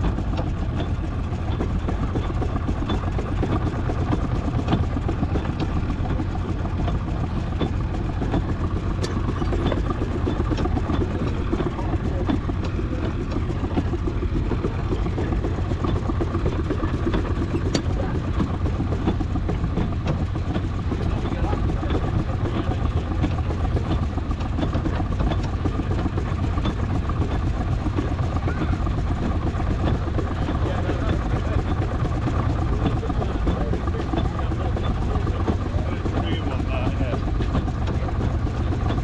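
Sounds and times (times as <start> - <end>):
steam engine low rumble: 0.0 - 39.0.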